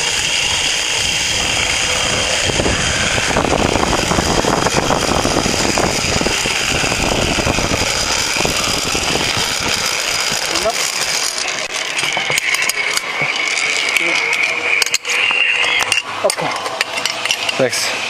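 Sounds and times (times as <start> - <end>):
zip line pulleys whirring on cable: 0.0 - 18.0.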